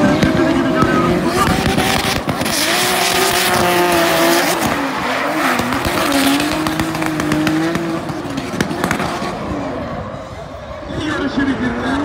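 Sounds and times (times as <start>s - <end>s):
car engine revving high: 0.0s - 10.5s.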